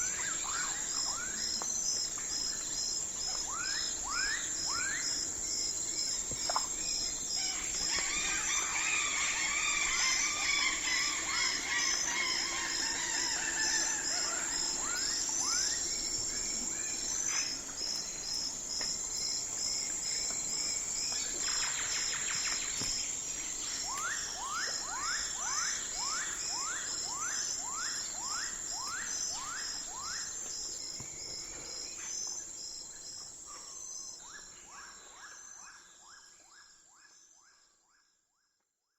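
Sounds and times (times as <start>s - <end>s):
insects trilling: 0.0s - 36.1s.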